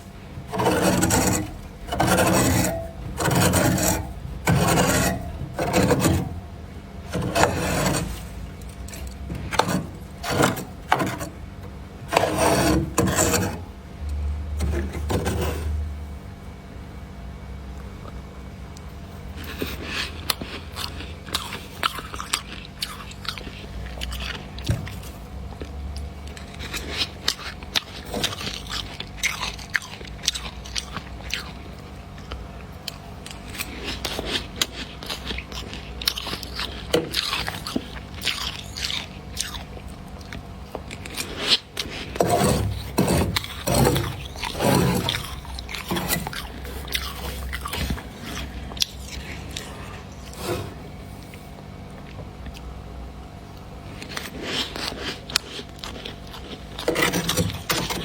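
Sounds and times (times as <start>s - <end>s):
person crunching and chewing frost: 0.0s - 13.8s, 17.7s - 58.0s.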